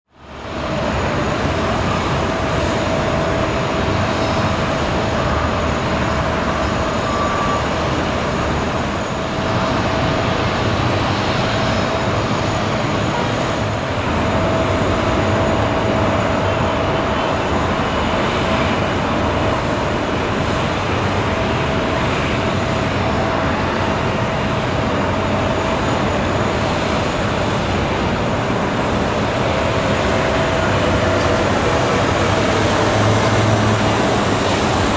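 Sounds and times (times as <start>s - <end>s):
jet aircraft rushing: 0.2s - 34.9s
thin steady whine: 0.2s - 34.9s.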